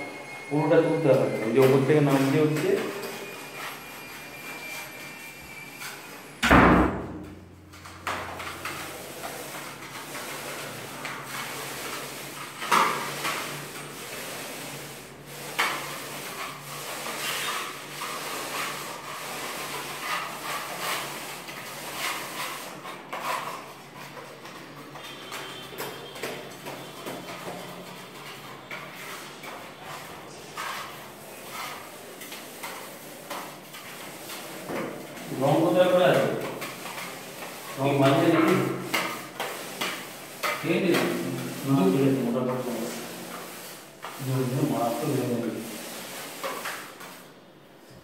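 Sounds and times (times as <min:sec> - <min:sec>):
paint roller swishing on wall: 0:00.2 - 0:48.0.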